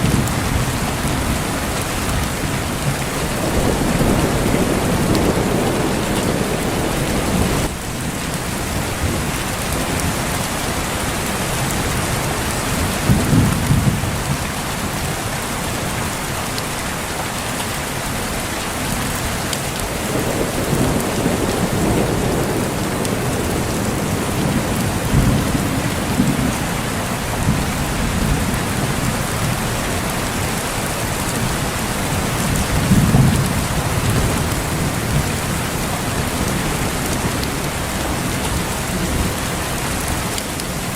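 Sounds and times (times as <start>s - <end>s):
thunder rumbling: 0.0s - 14.5s, 19.7s - 40.9s
heavy rain falling: 0.0s - 40.9s.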